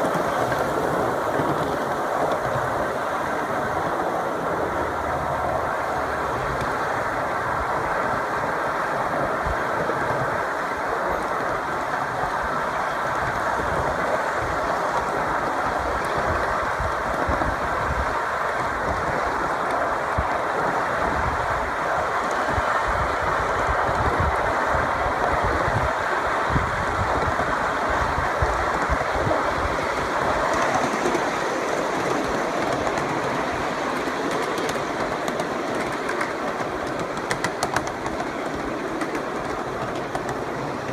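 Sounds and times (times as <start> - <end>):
steel wheels running on rails: 0.0 - 40.9.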